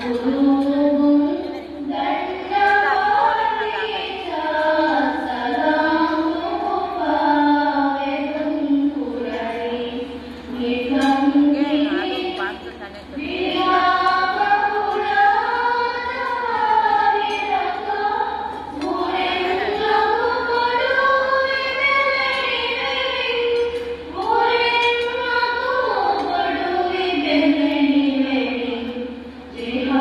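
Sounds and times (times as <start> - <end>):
women singing in unison: 0.0 - 30.0.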